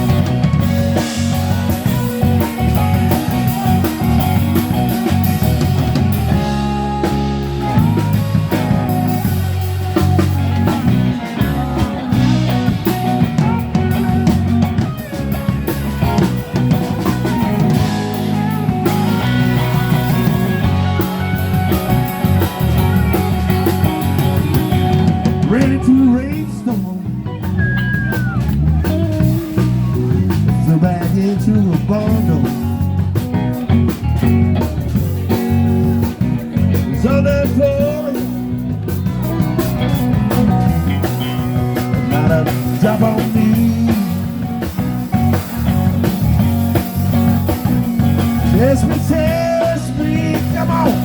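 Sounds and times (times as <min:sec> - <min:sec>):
bass: 0:00.0 - 0:51.0
drum kit: 0:00.0 - 0:51.0
guitar: 0:00.0 - 0:51.0.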